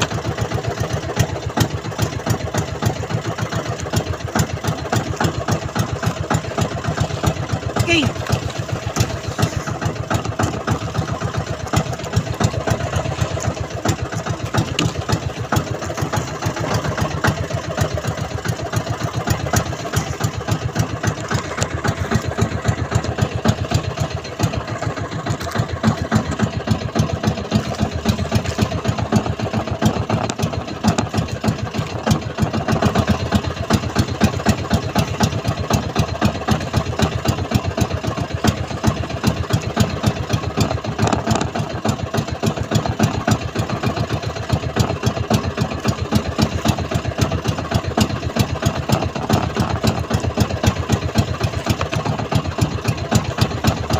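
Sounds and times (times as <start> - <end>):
boat engine running: 0.0 - 53.9.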